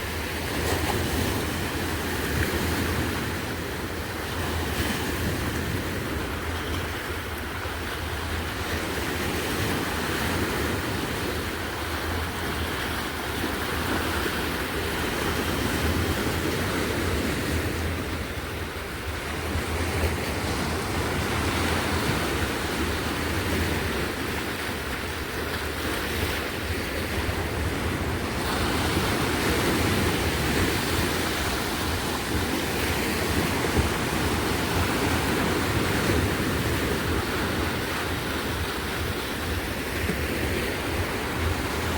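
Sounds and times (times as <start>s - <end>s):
sea waves on shore: 0.0s - 41.9s
wind rumble on microphone: 0.0s - 41.9s.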